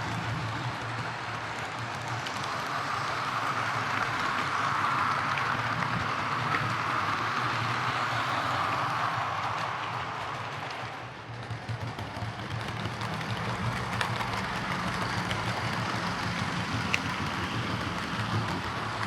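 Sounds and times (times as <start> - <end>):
wheels clicking over rail joints: 0.0 - 19.0
model train motor whirring: 0.6 - 11.1, 11.7 - 19.0.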